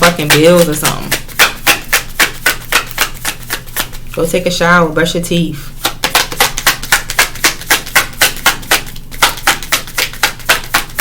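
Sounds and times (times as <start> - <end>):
cards being shuffled: 0.3 - 4.2, 5.8 - 11.0.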